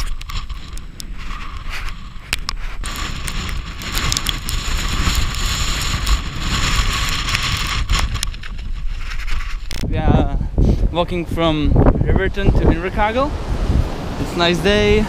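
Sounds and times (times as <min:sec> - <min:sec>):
hiss of wind-driven rain: 0:00.0 - 0:15.0
wind buffeting microphone: 0:00.0 - 0:15.0.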